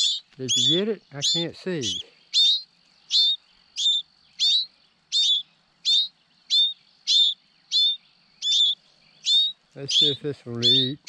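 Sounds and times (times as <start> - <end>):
nestling birds chirping: 0.0 - 11.0.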